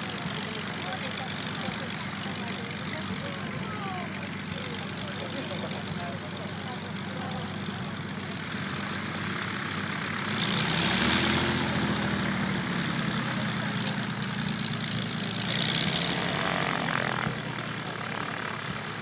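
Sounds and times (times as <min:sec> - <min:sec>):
propeller aircraft engine running: 0:00.0 - 0:19.0.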